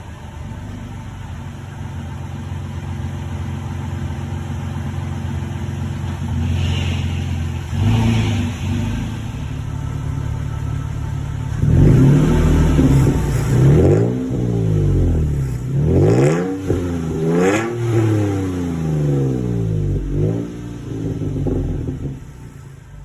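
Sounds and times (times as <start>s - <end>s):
truck engine revving: 2.0s - 23.0s.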